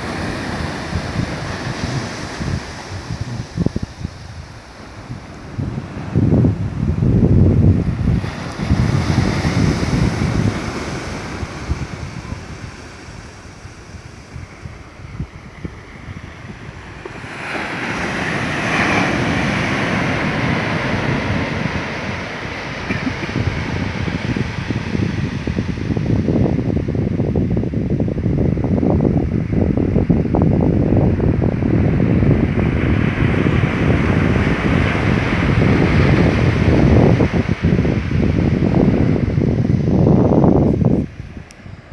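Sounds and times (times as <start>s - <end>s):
surf washing up a beach: 0.0s - 41.9s
wind buffeting microphone: 0.0s - 41.9s.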